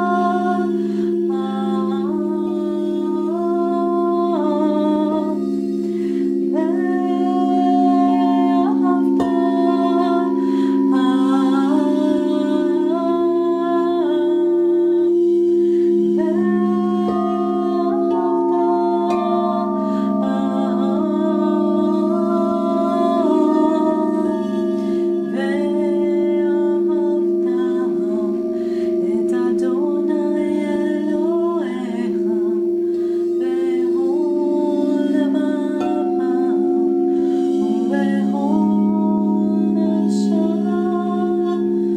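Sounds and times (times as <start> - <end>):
crystal singing bowls ringing: 0.0 - 41.9
woman singing wordlessly: 0.0 - 41.9.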